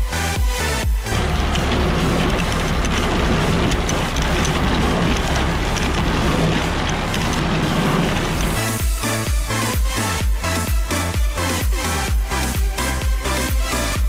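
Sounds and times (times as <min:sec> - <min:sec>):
tractor engine running: 0:00.0 - 0:14.0
chains and sprockets rattling: 0:01.0 - 0:14.0.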